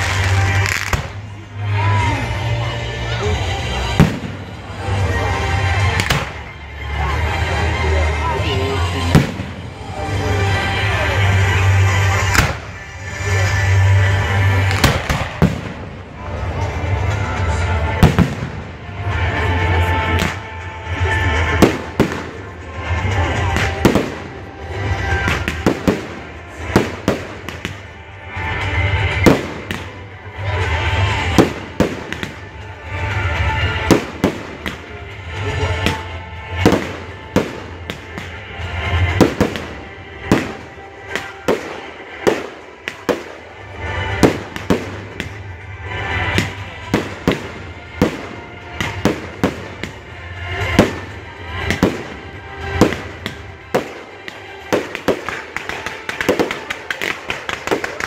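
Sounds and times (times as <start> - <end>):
fireworks bangs and bursts: 0.0 - 1.4, 3.6 - 6.5, 8.8 - 58.0.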